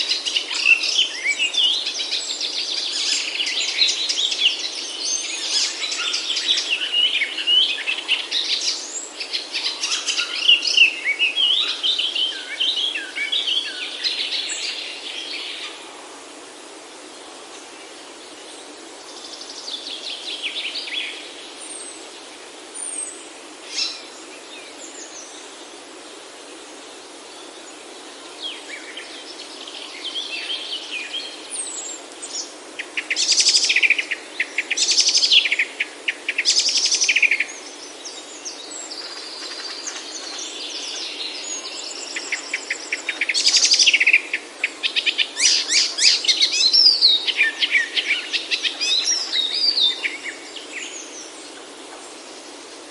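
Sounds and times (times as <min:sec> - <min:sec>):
forest birds singing and calling: 0:00.0 - 0:52.9
steady background hiss: 0:00.0 - 0:52.9.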